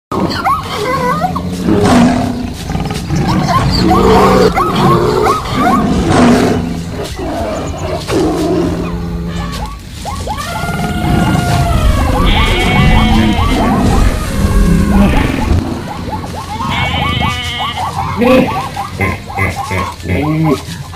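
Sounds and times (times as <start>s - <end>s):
wild animal roars and calls: 0.1s - 20.9s
low steady tones: 0.9s - 20.9s.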